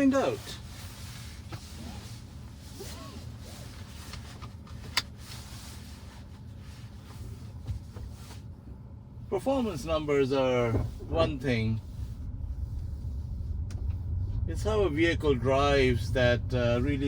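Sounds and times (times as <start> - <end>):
car cabin engine rumble: 0.0 - 17.0.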